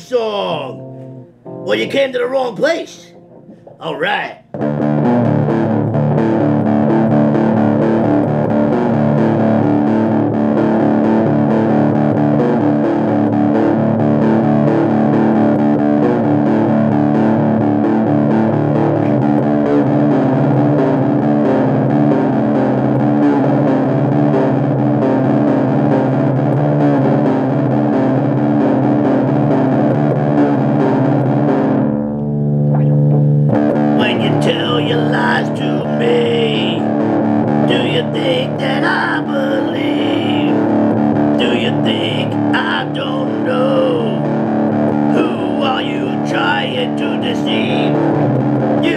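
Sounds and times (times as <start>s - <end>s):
distorted electric guitar riff: 0.0s - 48.9s.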